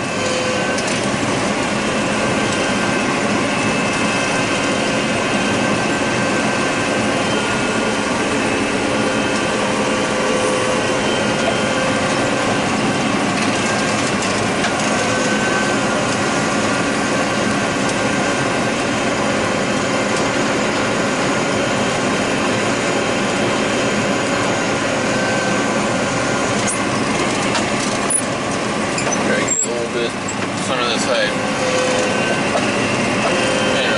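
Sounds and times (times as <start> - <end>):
combine harvester droning: 0.0 - 33.9.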